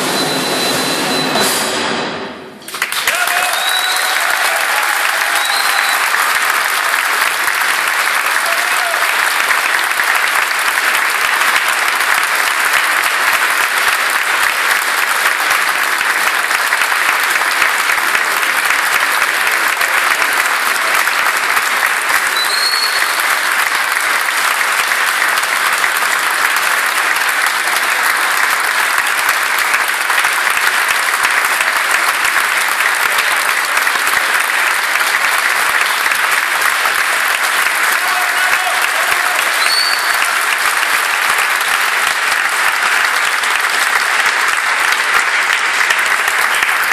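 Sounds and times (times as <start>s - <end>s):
audience applauding: 2.6s - 46.9s.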